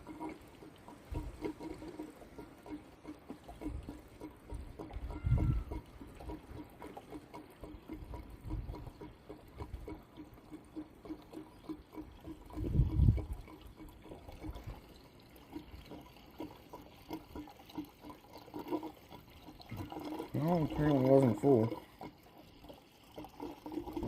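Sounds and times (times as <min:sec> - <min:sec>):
gasoline glugging from can: 0:00.0 - 0:24.0.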